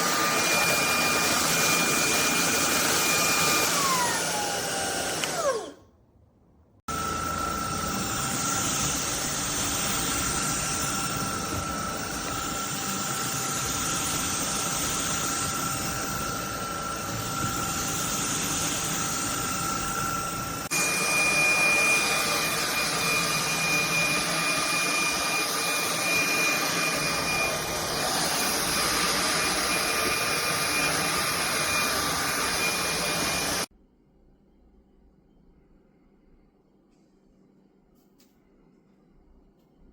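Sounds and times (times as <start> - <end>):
vacuum cleaner motor whining: 0.0 - 5.8, 6.9 - 33.7.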